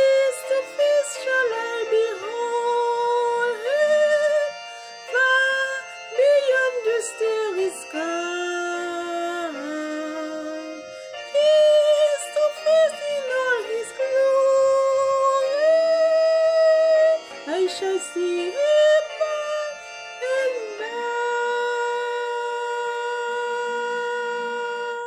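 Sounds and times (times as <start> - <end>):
solo voice singing with vibrato: 0.0 - 25.0.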